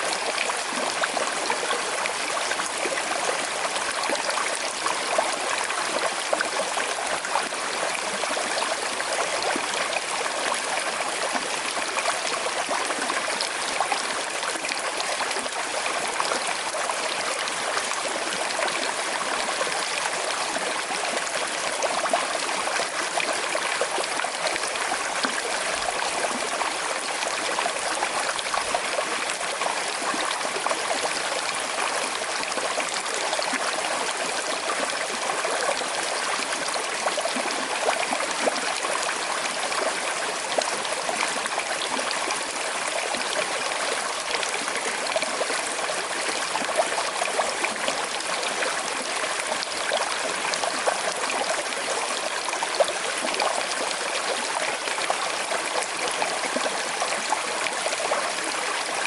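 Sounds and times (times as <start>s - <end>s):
water babbling over stones: 0.0s - 59.0s.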